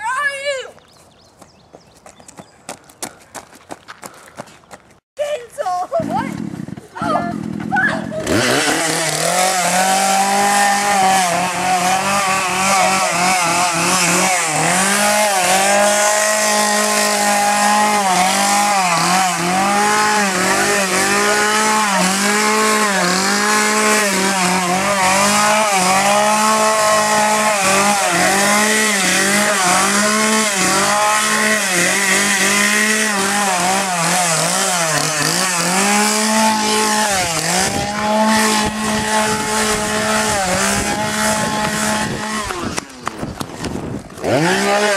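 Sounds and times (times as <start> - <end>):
two-stroke chainsaw running: 6.0 - 44.9.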